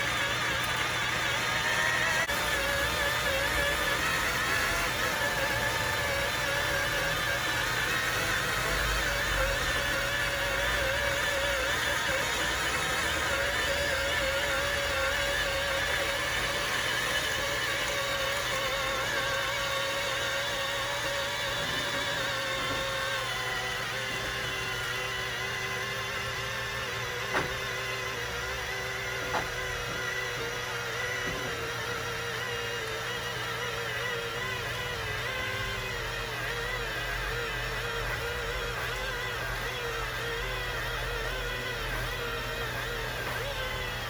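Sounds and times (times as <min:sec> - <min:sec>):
vacuum cleaner motor whining: 0:00.0 - 0:44.0.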